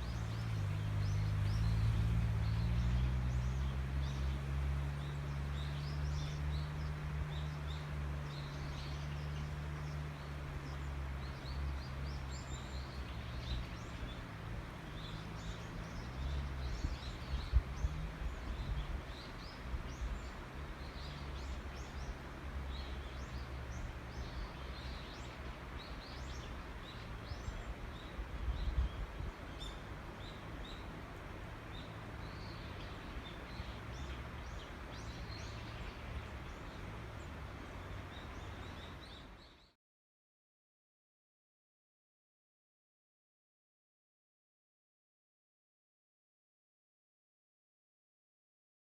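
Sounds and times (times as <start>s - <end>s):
small birds chirping: 0.0s - 39.8s.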